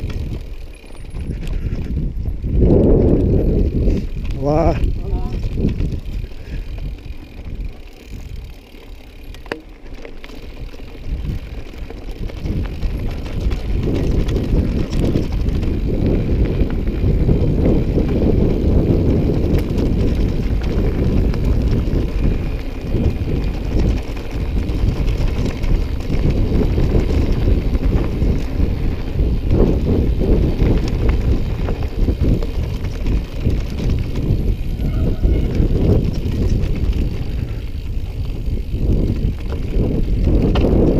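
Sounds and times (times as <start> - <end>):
bike knocks and rattles: 0.0 - 40.9
tyres rumbling on trail: 0.0 - 40.9.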